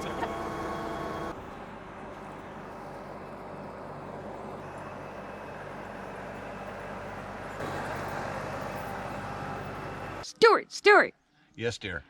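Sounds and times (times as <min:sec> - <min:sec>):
tractor diesel engine running: 0:00.0 - 0:10.2.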